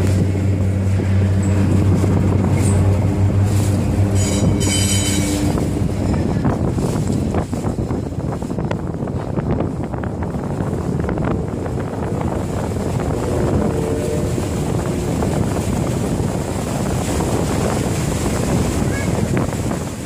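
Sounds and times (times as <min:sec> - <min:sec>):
water rushing along boat hull: 0:00.0 - 0:20.0
wind buffeting microphone: 0:00.0 - 0:20.0.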